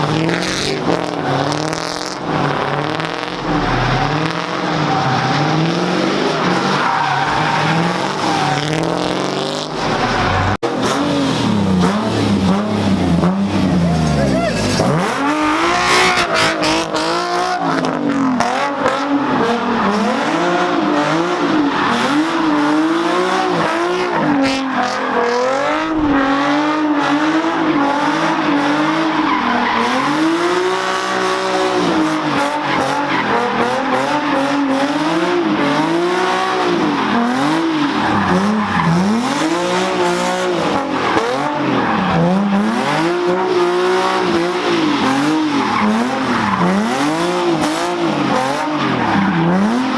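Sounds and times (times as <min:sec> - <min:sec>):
car engine revving: 0:00.0 - 0:49.9
tires squealing: 0:00.0 - 0:49.9.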